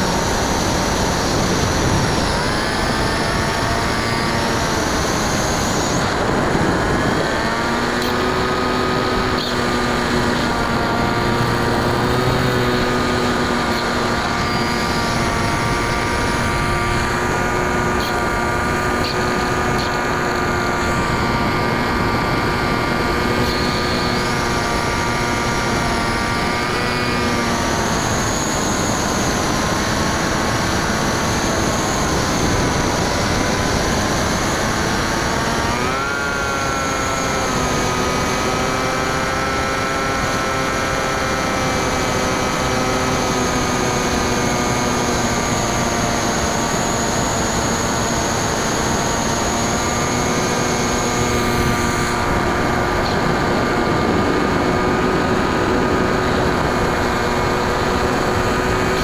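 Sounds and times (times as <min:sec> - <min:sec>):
model plane motor whining: 0:00.0 - 0:59.0.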